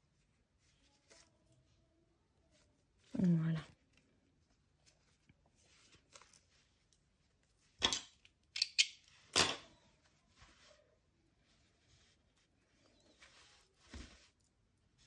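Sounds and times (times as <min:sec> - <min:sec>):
faint fabric rustling: 0:00.0 - 0:07.8, 0:09.7 - 0:15.0.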